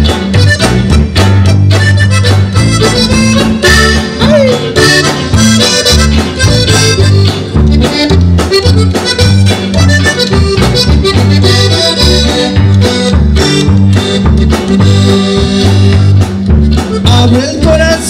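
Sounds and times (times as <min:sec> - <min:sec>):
button accordion melody: 0:00.0 - 0:18.0
drums: 0:00.0 - 0:18.0
electric bass: 0:00.0 - 0:18.0
guitar strumming: 0:00.0 - 0:18.0.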